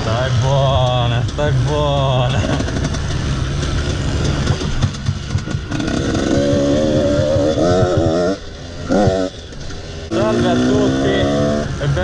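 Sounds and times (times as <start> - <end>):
two-stroke engine running: 0.7 - 12.0.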